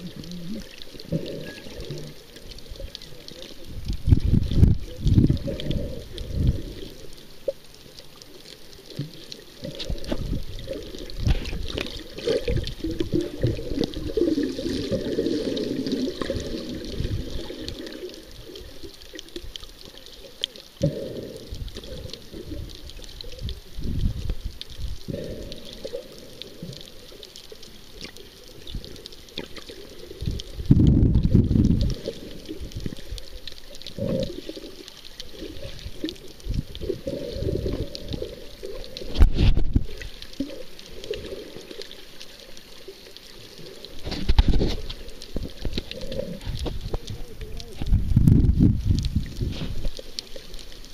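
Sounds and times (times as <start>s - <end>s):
underwater gurgling and sloshing: 0.0s - 50.9s.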